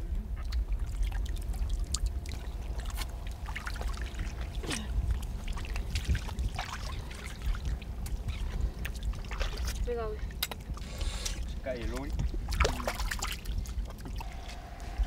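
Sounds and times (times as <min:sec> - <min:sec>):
shallow water trickling and sloshing: 0:00.0 - 0:15.0
steady low rumble: 0:00.0 - 0:15.0.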